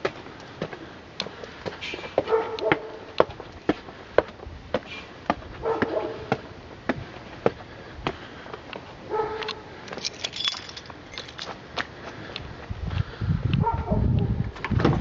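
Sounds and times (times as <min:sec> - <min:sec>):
footsteps on hard steps: 0:00.0 - 0:08.9, 0:09.5 - 0:13.1.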